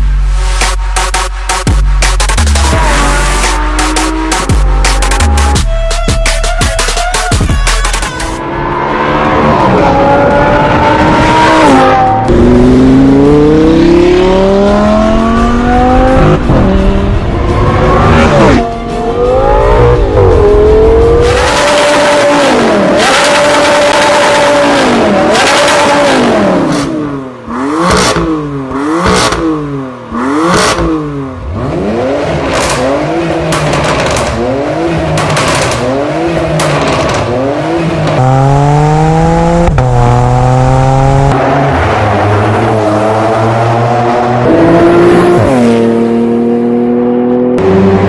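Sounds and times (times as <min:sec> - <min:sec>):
car engine revving: 0:08.1 - 0:48.0.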